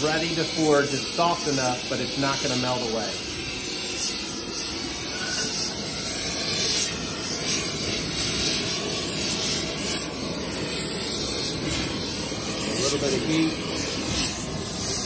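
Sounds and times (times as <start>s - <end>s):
gas torch flame rushing: 0.0s - 15.0s.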